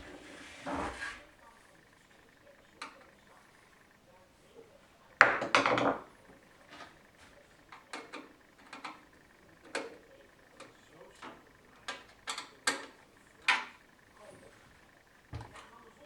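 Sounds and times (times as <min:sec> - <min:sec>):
computer case parts rattling: 0:00.0 - 0:16.0.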